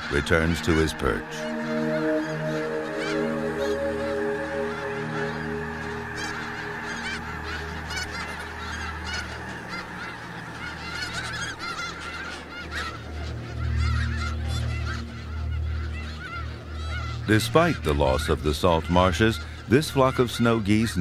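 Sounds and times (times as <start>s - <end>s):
geese honking and yelping: 0.0s - 20.6s.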